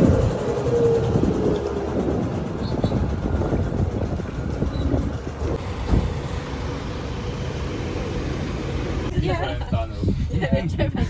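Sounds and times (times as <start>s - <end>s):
faint engine tone: 0.0s - 9.2s
boat motor rumbling: 0.0s - 11.0s.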